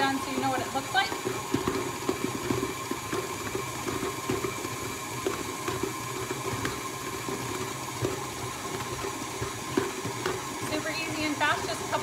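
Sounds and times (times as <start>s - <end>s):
stand mixer motor running: 0.0s - 12.0s.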